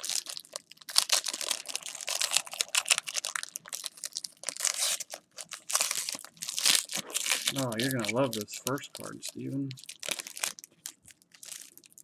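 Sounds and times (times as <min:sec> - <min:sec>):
foil wrapper tearing and crinkling: 0:00.0 - 0:12.0.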